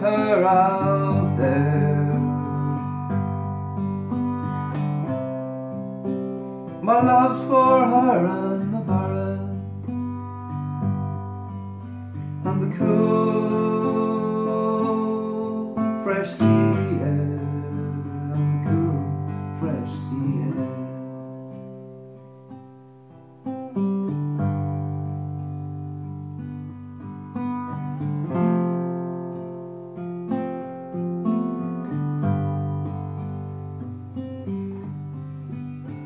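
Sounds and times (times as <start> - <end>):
fingerpicked acoustic guitar: 0.0 - 36.0.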